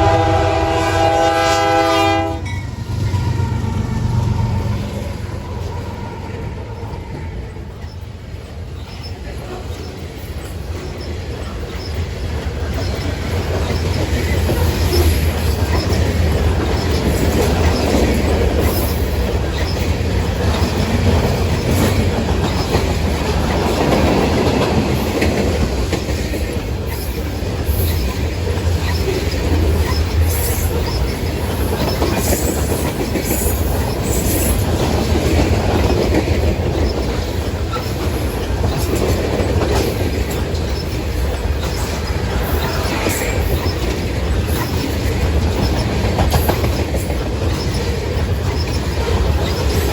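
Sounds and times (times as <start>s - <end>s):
freight train rumble: 0.0s - 49.9s
wheels clacking over rail joints: 0.1s - 49.9s.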